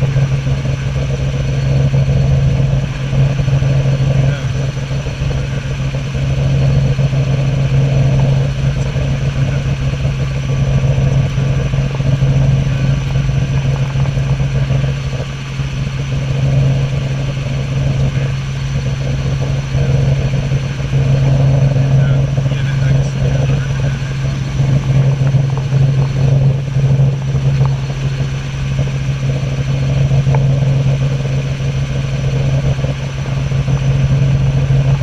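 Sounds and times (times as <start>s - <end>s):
helicopter engine and rotors drone: 0.0s - 35.0s.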